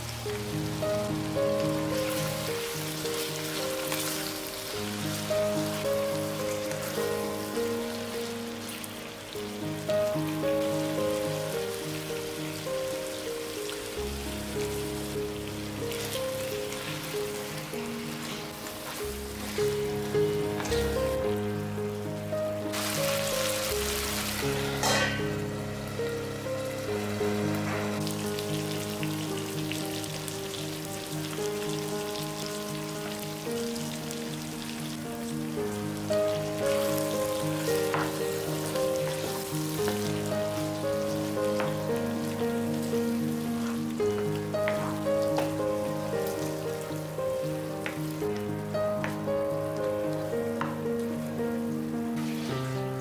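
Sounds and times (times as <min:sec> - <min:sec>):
food sizzling in oil: 0:00.0 - 0:53.0
instrumental background music: 0:00.0 - 0:53.0.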